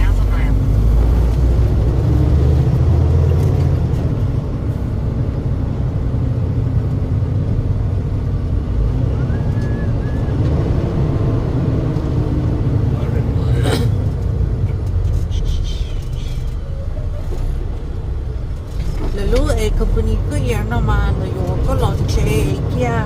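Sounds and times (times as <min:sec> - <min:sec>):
road noise: 0:00.0 - 0:23.0
truck engine rumble: 0:00.0 - 0:23.0.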